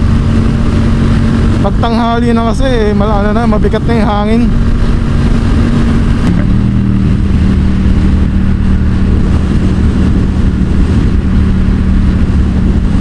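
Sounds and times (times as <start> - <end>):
motorcycle engine at speed: 0.0 - 13.0
wind rush over microphone: 0.0 - 13.0.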